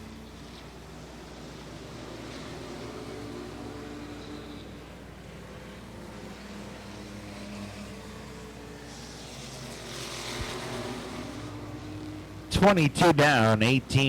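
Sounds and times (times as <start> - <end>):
race truck engines: 0.0 - 14.0.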